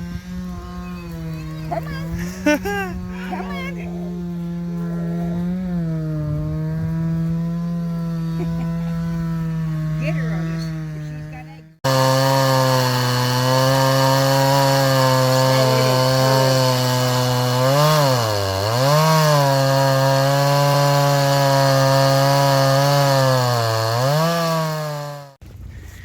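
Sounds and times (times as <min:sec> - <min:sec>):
chainsaw cutting wood: 0:00.0 - 0:25.4.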